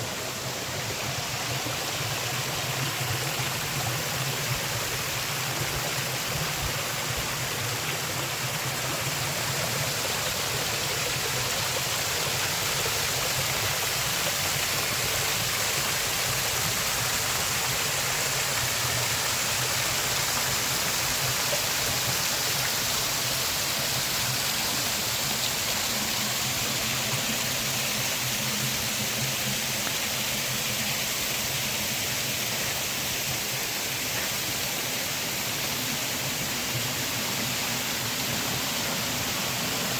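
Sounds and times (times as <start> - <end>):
creek water rushing down cascade: 0.0 - 39.9.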